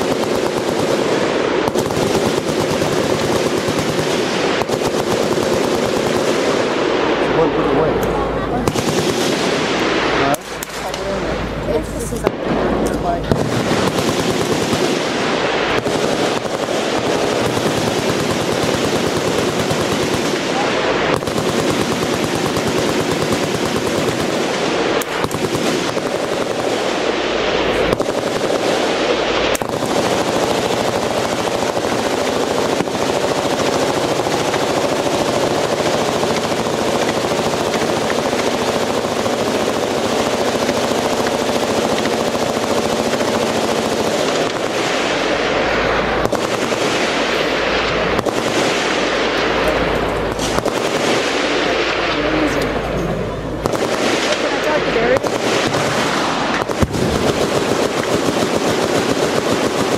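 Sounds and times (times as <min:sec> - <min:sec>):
machine guns firing: 0:00.0 - 0:59.9.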